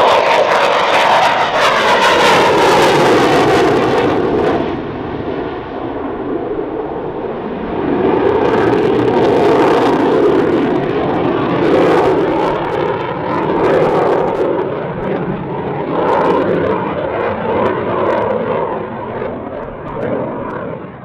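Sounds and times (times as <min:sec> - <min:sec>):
jet engine roaring: 0:00.0 - 0:21.0.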